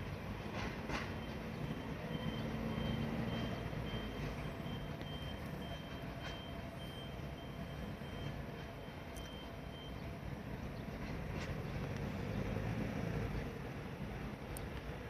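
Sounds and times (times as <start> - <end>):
faint clanks of train wagons: 0.0 - 15.0.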